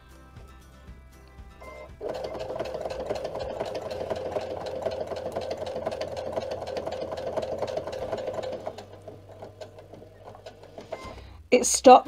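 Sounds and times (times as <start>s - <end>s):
electric sewing machine running: 1.6s - 11.3s.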